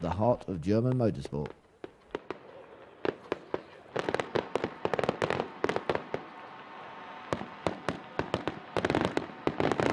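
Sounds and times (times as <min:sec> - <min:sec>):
fireworks cracks and bangs: 0:00.9 - 0:09.9.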